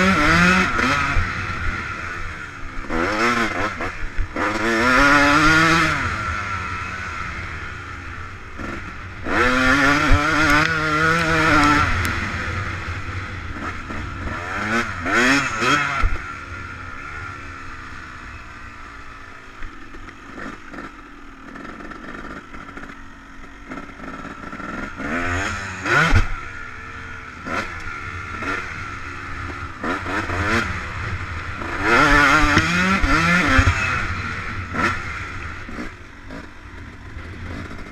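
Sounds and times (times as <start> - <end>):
motocross bike revving: 0.0 - 37.9.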